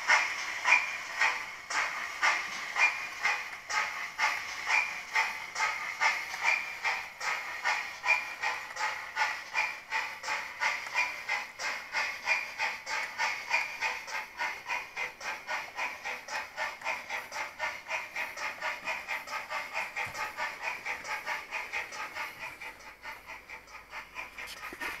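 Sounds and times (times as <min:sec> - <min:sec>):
model train steam chuffs: 0:00.0 - 0:25.0.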